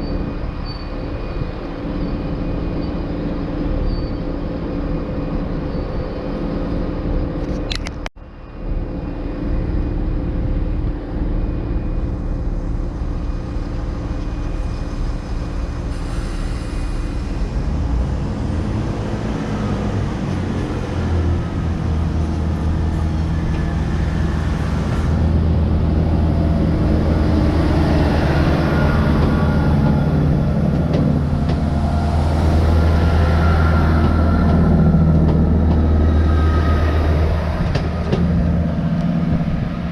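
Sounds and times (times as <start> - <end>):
diesel train engines droning: 0.0 - 39.9.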